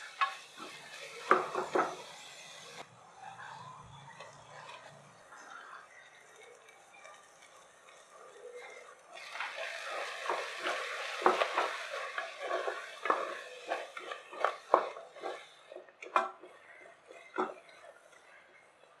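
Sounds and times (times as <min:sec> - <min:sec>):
spatula scraping pot: 0:00.0 - 0:18.6
light sizzle: 0:00.0 - 0:19.0.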